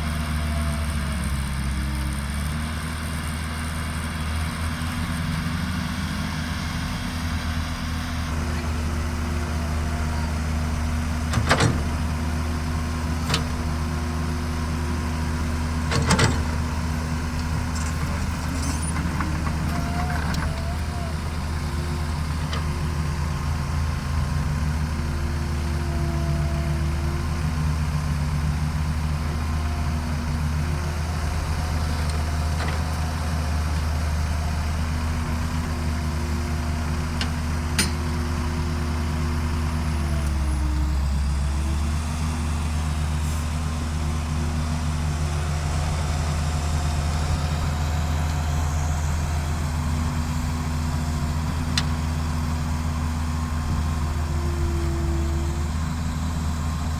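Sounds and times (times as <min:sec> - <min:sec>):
heavy diesel engines running: 0:00.0 - 0:56.9.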